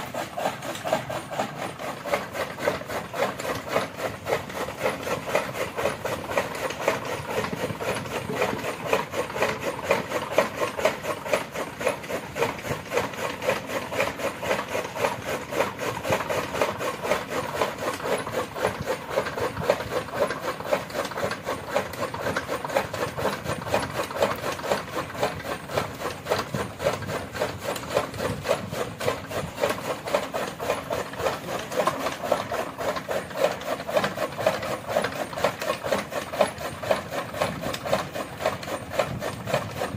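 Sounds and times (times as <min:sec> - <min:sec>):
chaff cutter chopping fodder: 0:00.0 - 0:39.9.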